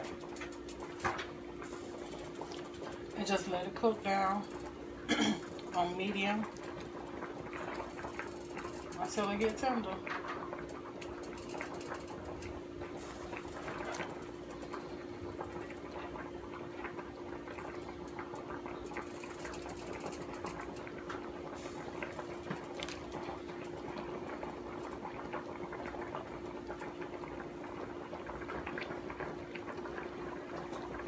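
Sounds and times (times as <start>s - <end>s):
meat bubbling and crackling in pan: 0.0s - 31.0s
steady low hum: 0.0s - 31.0s.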